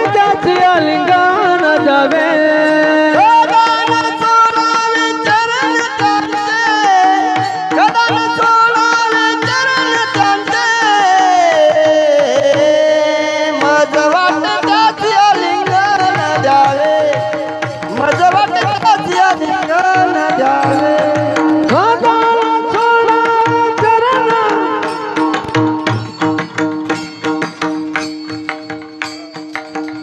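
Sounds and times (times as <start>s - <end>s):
person singing devotional song: 0.0s - 30.0s.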